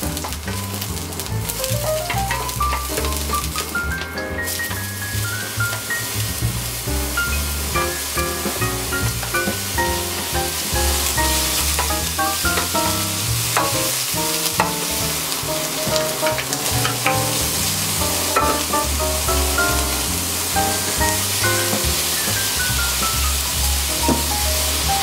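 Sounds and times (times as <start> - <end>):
background music with bass: 0.0 - 25.0
food sizzling in a pan: 1.8 - 25.0.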